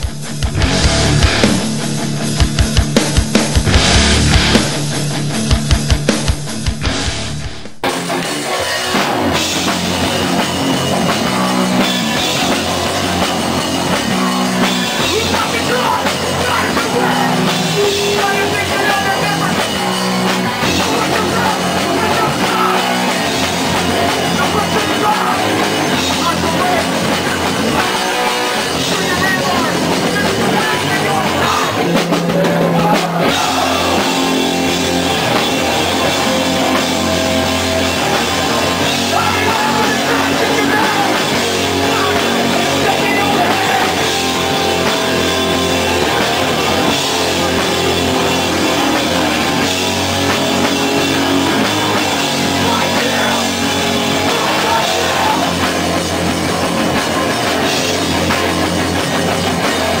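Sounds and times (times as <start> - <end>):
bass guitar: 0.0 - 60.0
distorted electric guitars: 0.0 - 60.0
drum kit: 0.0 - 60.0.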